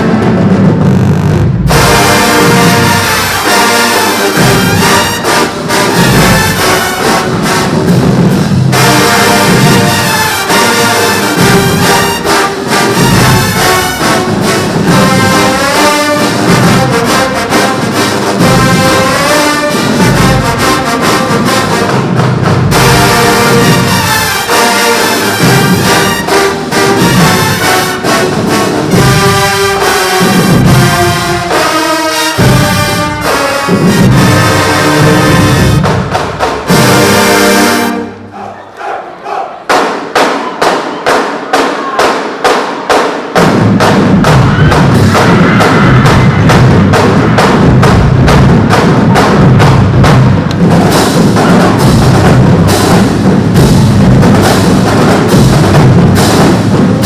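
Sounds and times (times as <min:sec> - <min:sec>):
driving drum beat: 0:00.0 - 0:38.0, 0:39.7 - 0:57.0
marching band brass: 0:00.0 - 0:57.0.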